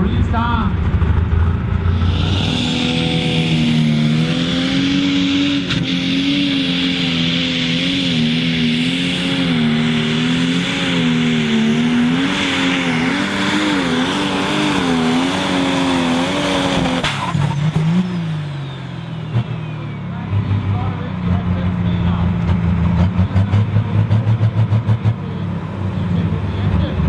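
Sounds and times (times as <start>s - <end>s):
diesel engine at full throttle: 0.0s - 27.0s
high turbo whine: 0.0s - 27.0s.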